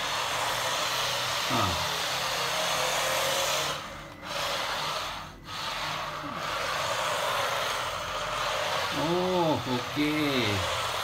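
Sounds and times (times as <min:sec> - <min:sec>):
small electric motor whirring: 0:00.0 - 0:11.0
tyres sliding on floor: 0:00.0 - 0:11.0.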